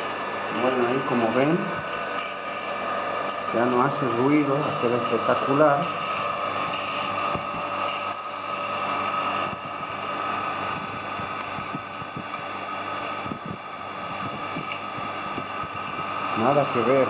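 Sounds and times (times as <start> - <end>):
electric pump motor whining: 0.0 - 17.0.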